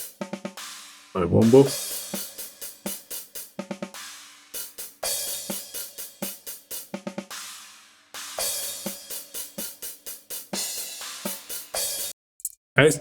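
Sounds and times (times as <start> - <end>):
hi-hat and cymbal hits: 0.0 - 12.2.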